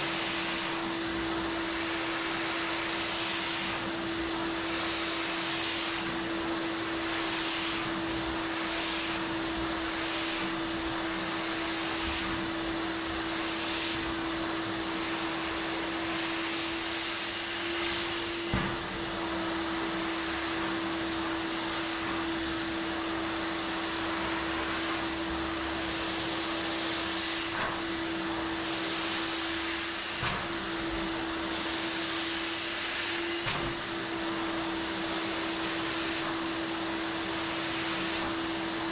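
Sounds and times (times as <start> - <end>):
vacuum air rushing over rug: 0.0 - 38.9
vacuum cleaner motor humming: 0.0 - 38.9.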